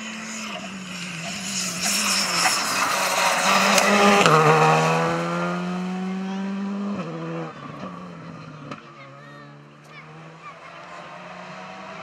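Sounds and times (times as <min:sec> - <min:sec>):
rally car engine passing: 0:00.0 - 0:12.0.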